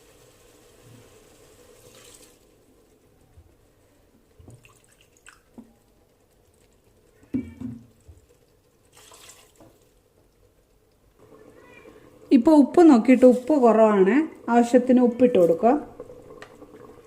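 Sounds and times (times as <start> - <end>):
water poured into pot: 0.0 - 2.5, 4.5 - 10.0, 11.2 - 17.0.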